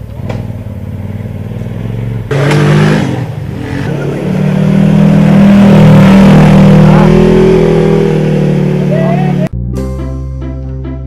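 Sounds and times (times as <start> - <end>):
off-road vehicle engine accelerating: 0.0 - 9.5.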